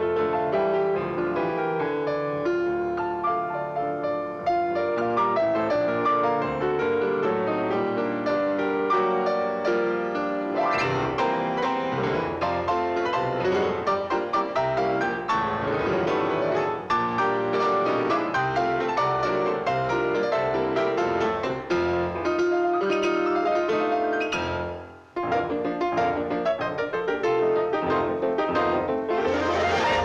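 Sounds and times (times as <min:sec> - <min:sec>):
piano music played briskly: 0:00.0 - 0:30.0.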